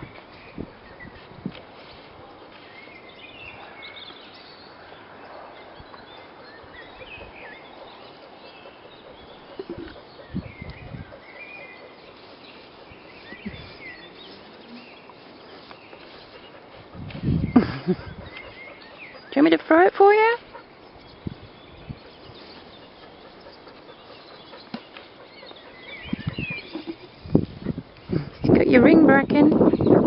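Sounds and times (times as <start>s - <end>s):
outdoor background hiss: 0.0s - 29.7s
small birds chirping: 0.0s - 30.0s.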